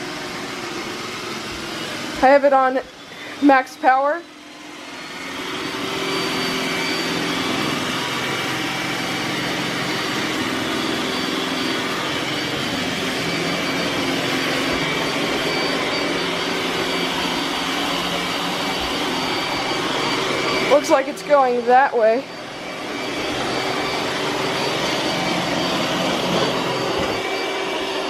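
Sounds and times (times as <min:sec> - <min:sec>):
robot vacuum running: 0:00.0 - 0:28.0.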